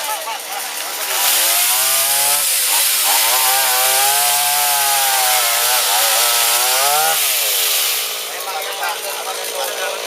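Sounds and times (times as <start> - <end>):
small engine running hard: 0.0 - 10.0.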